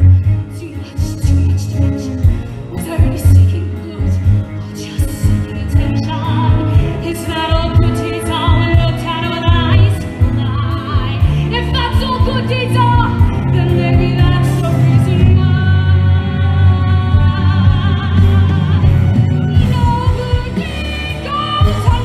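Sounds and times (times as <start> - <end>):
orchestral music: 0.0 - 22.0
woman singing with vibrato: 0.0 - 22.0.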